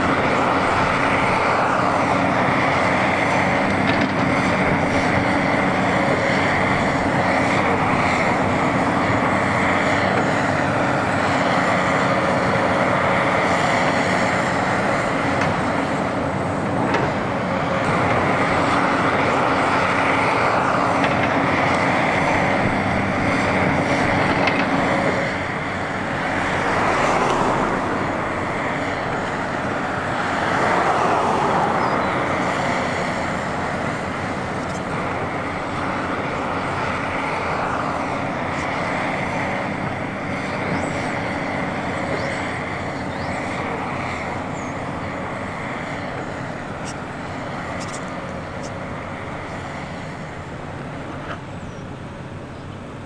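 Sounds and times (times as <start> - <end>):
loud engine drone: 0.0 - 53.0.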